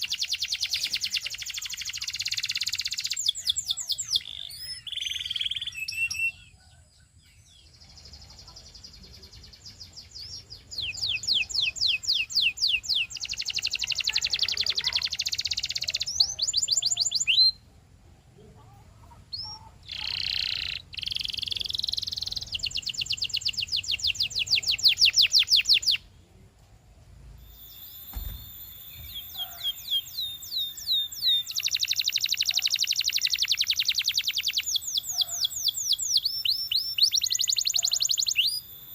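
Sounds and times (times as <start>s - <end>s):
canary singing: 0.0s - 17.7s, 18.7s - 26.1s, 27.4s - 38.9s.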